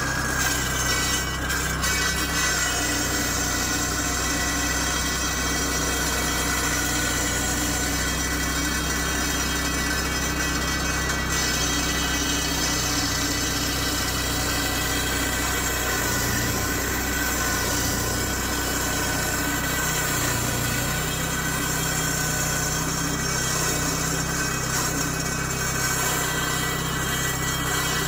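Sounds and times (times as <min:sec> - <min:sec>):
engine droning steadily: 0:00.0 - 0:28.0.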